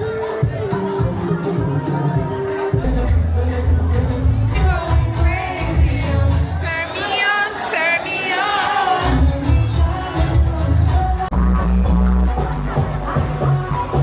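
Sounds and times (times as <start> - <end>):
heavy bass beat: 0.0 - 6.8, 9.0 - 14.0
person singing pop music: 0.0 - 14.0.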